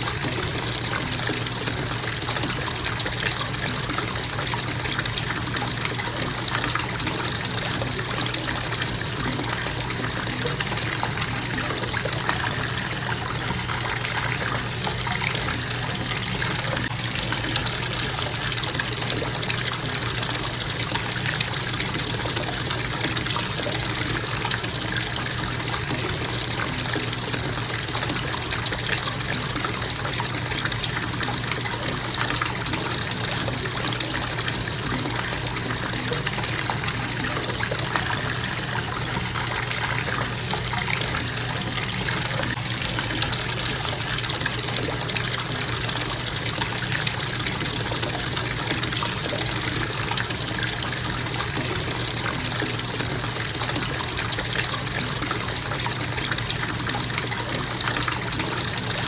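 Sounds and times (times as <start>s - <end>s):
faucet running into bathtub: 0.0s - 59.0s.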